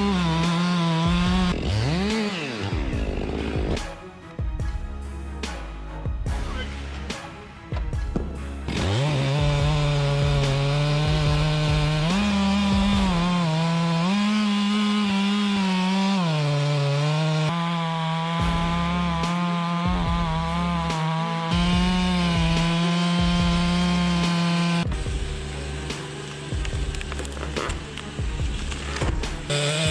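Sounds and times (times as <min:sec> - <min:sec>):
chainsaw cutting wood: 0:00.0 - 0:04.2, 0:06.5 - 0:29.9.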